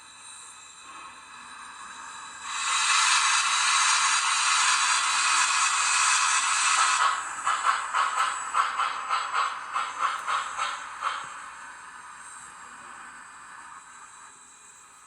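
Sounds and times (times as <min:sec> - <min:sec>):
steam hiss: 0:00.0 - 0:15.0
steam locomotive chuffs: 0:00.0 - 0:15.0.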